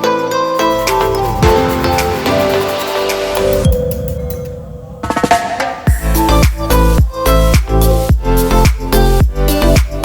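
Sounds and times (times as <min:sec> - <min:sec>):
dance music with bass drum: 0:00.6 - 0:10.0.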